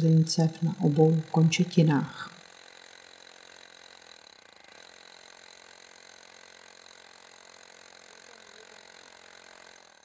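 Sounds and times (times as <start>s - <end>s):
demolition hammer running: 0.0s - 10.0s.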